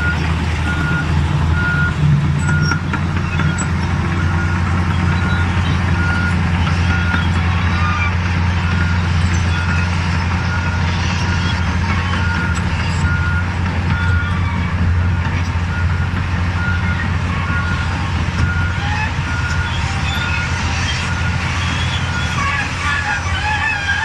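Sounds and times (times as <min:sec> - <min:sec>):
bulldozer diesel engine running: 0:00.0 - 0:24.0
reversing alarm beeping: 0:00.0 - 0:24.0.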